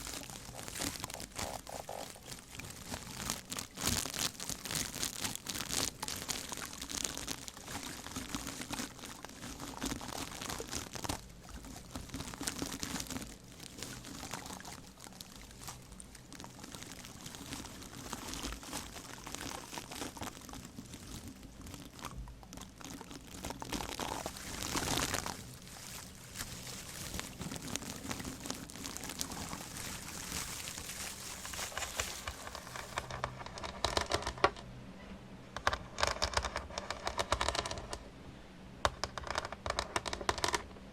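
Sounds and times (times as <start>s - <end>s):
crinkling and rustling: 0.0s - 34.7s, 35.6s - 38.1s, 38.8s - 40.9s.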